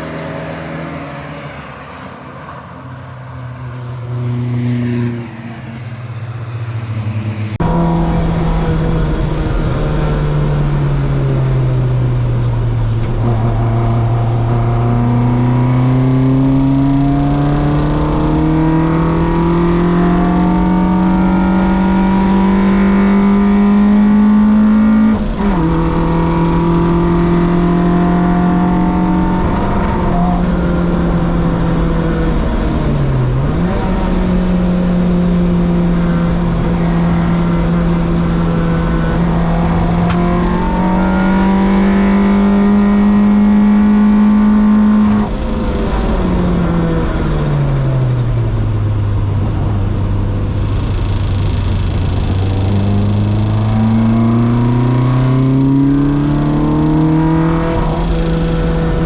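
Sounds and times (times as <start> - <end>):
car engine revving high: 0.0 - 2.3, 3.0 - 59.0.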